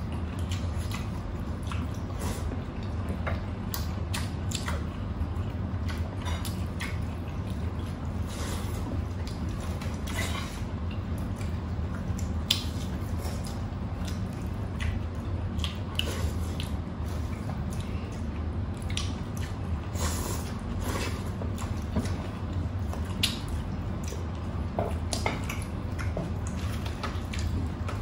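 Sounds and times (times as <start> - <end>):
steady low hum: 0.0 - 28.0
wet chewing and squelches: 0.0 - 28.0
lip smacks: 0.4 - 5.1, 9.2 - 28.0.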